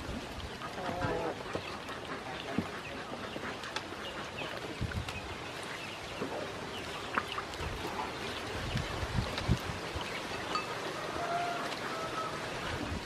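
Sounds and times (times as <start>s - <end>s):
ducklings peeping: 0.2s - 13.0s.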